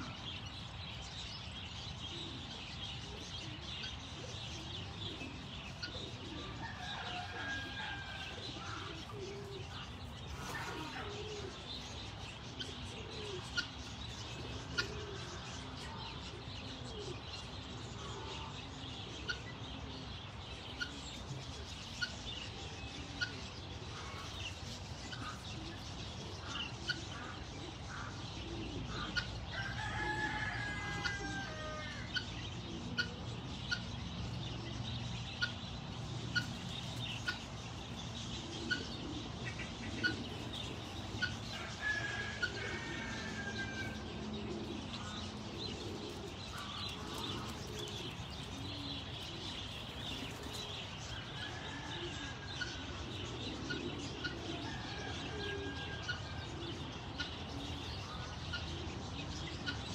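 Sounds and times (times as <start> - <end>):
poultry chirps and calls: 0.0 - 59.9
chickens clucking: 3.5 - 16.6, 20.6 - 34.4, 35.3 - 59.9.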